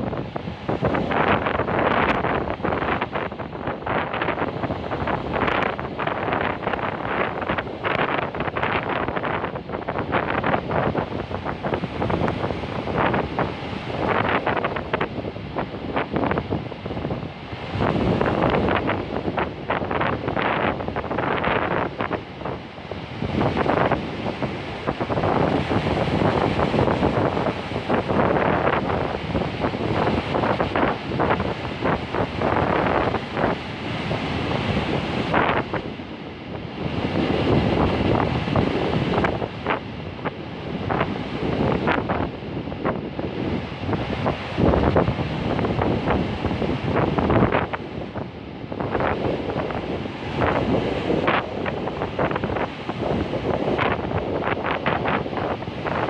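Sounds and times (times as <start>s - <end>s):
sea waves breaking on shore: 0.0s - 56.0s
wind buffeting microphone: 0.0s - 56.0s.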